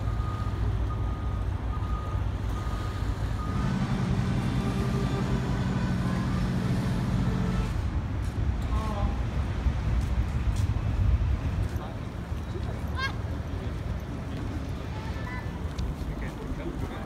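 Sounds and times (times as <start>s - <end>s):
deeper engine hum: 0.0s - 17.0s
low engine rumble: 0.0s - 17.0s.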